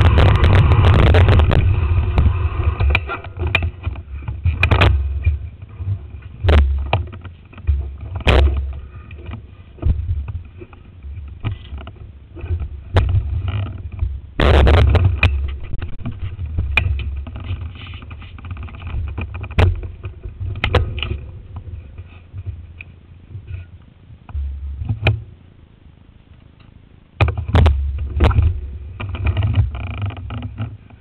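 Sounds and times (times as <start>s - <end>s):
camera knocks and rattles: 0.0s - 22.7s, 27.2s - 31.0s
low rumble: 0.0s - 26.2s.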